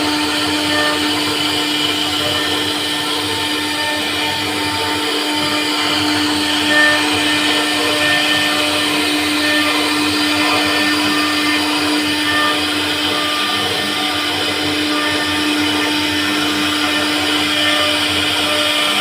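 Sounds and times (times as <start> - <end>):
hiss of wood cutting: 0.0 - 19.0
router spindle whine: 0.0 - 19.0.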